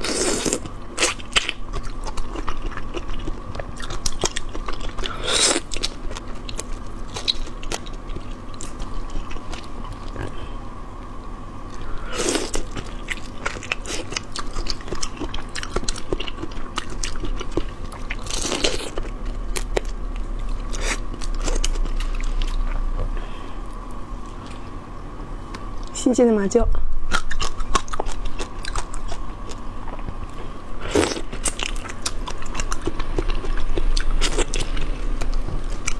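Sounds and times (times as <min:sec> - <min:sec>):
crunching and chewing: 0:00.0 - 0:24.8, 0:27.1 - 0:35.9.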